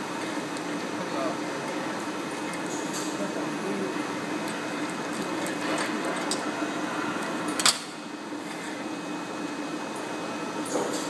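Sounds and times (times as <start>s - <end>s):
roller winder motor hum: 0.0s - 10.9s.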